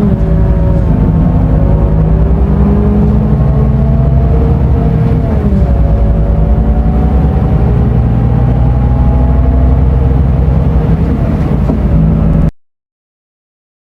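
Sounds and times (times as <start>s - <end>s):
diesel bus engine rumbling: 0.0s - 12.5s.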